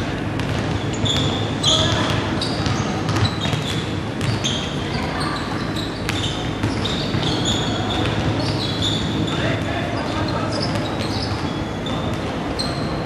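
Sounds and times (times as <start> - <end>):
basketball bouncing: 0.0 - 5.1, 6.1 - 9.3, 10.6 - 13.0
echoing hall hum: 0.0 - 13.0
sneakers squeaking: 0.0 - 13.0.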